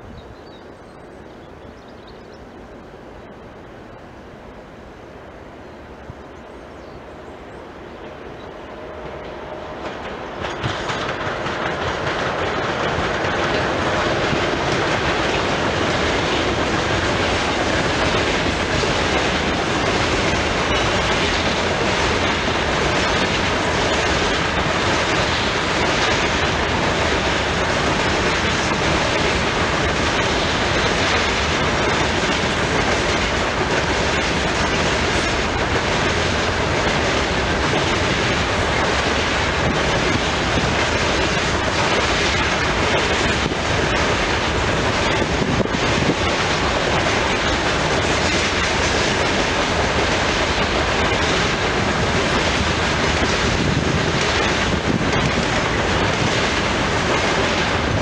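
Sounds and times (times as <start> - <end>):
freight train passing: 0.0 - 58.0
wheels clattering on rails: 9.0 - 58.0.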